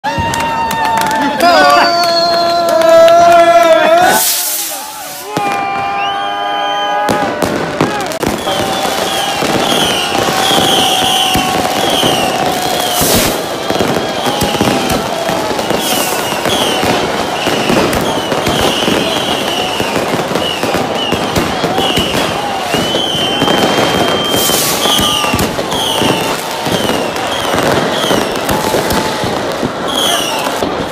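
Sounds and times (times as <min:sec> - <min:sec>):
people's voices: 0:00.0 - 0:06.5, 0:07.1 - 0:30.9
fireworks bangs and pops: 0:00.0 - 0:30.9
high-pitched firework chirps: 0:04.0 - 0:05.6, 0:07.0 - 0:30.8.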